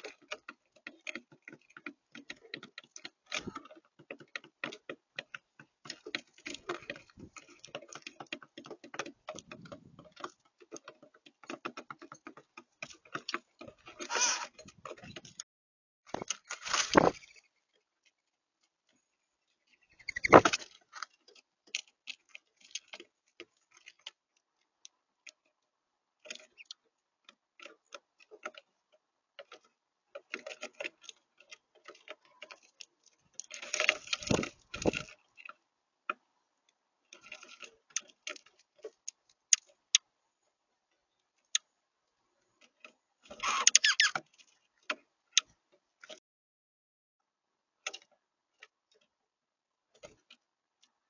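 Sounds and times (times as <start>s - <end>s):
birds pecking and tapping: 0.0s - 15.4s, 16.1s - 46.2s, 47.6s - 51.0s
birds scuffling: 0.0s - 15.4s, 16.1s - 46.2s.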